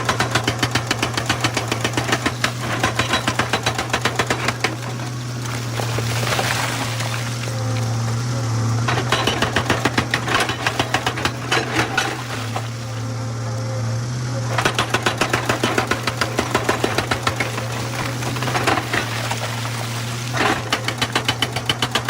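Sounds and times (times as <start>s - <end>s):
hydraulic breaker hammering stone: 0.0s - 13.2s, 14.5s - 22.0s
excavator engine drone: 0.0s - 22.0s.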